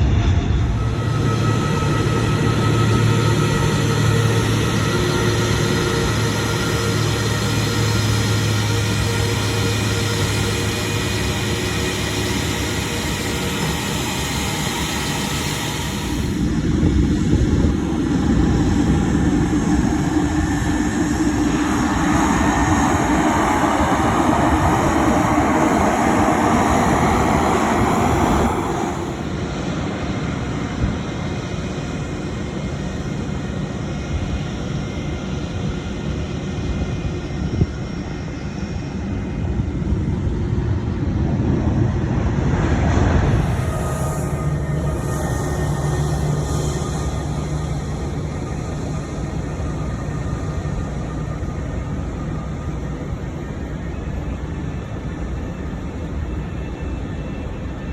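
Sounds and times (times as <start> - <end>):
jet engine roar: 0.0 - 57.9.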